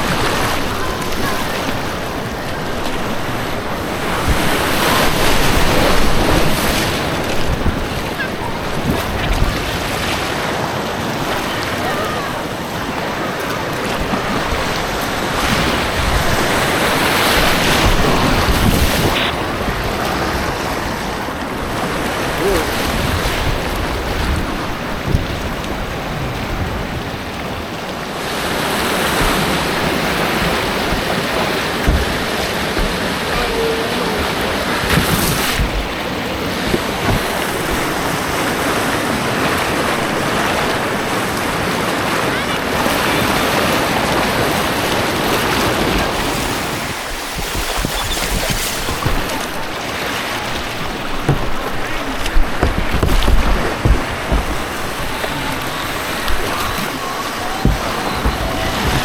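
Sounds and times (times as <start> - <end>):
white water rushing: 0.0 - 59.0
wind buffeting microphone: 0.0 - 59.0.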